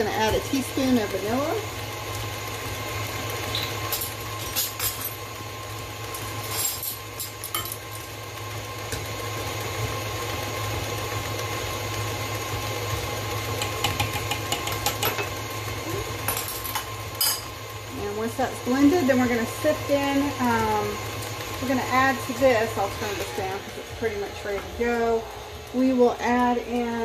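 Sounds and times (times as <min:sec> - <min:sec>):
stand mixer motor humming: 0:00.0 - 0:04.4, 0:05.2 - 0:06.4, 0:07.9 - 0:27.0.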